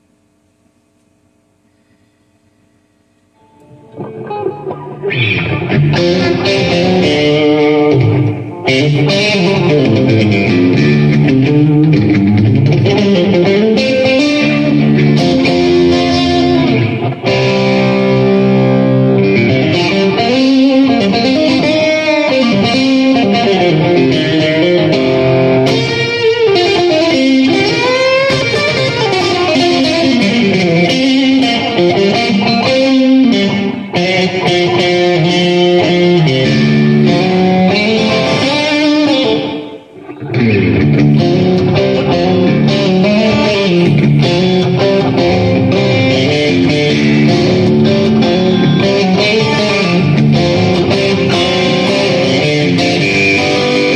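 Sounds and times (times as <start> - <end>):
electric guitar through amplifier: 0.0 - 53.9.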